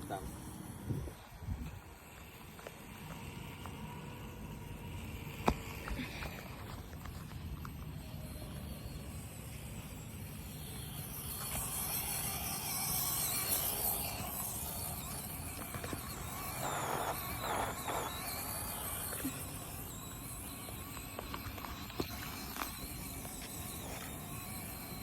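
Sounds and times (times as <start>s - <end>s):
small electric motors whining: 0.0s - 25.0s.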